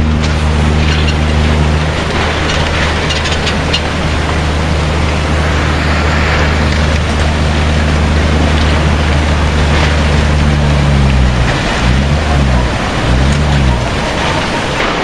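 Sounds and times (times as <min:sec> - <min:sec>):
deep low rumble: 0:00.0 - 0:15.0
flood water roaring: 0:00.0 - 0:15.0
debris cracking: 0:00.1 - 0:15.0.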